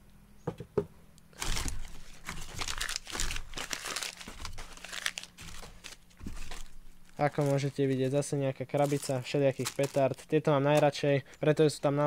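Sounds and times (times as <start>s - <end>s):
newspaper crinkling by hand: 1.3s - 11.5s.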